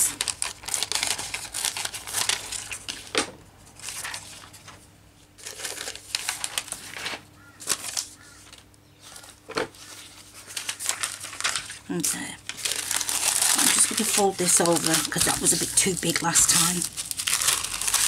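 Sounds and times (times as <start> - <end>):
plastic sheets crinkling: 0.0 - 18.0.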